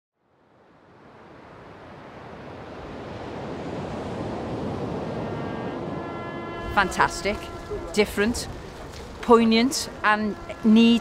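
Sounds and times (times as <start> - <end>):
surf washing onto beach: 0.7 - 11.0.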